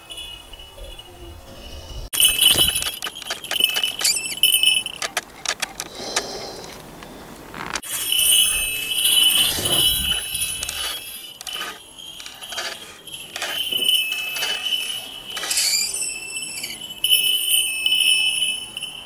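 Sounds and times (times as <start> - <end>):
small brass bells jingling: 0.0 - 5.4, 7.8 - 19.0.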